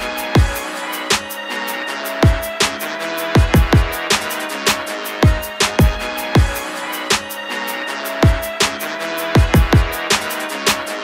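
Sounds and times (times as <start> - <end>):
electronic dance music: 0.0 - 11.0
hi-hat strikes: 0.0 - 11.0.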